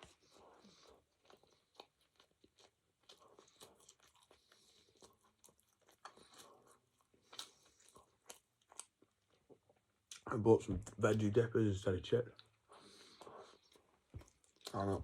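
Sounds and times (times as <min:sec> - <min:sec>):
person chewing crunchy food: 0:00.0 - 0:10.2, 0:12.3 - 0:15.0.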